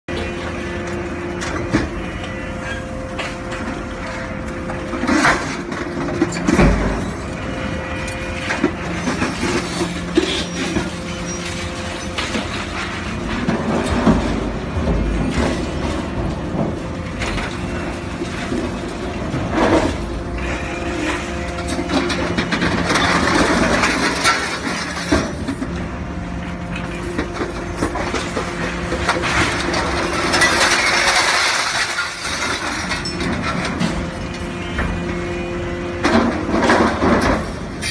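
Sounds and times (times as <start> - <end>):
hydraulic shear and excavator running: 0.1 - 37.9
metal crunching: 0.2 - 37.9.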